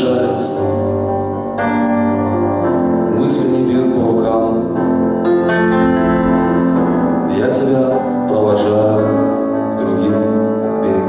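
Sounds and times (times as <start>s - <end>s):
keyboard playing piano chords: 0.0s - 11.0s.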